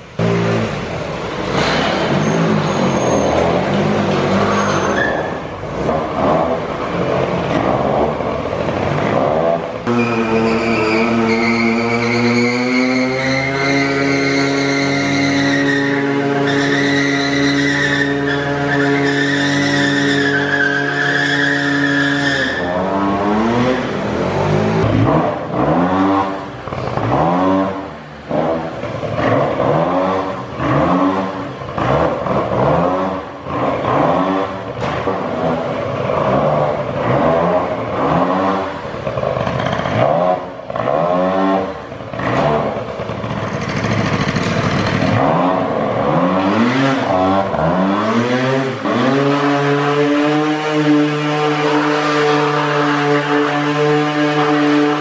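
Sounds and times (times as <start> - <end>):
moped engines at full throttle: 0.0 - 4.6, 5.3 - 14.2, 22.7 - 55.0
scooter engine revving: 5.3 - 21.9, 22.6 - 55.0.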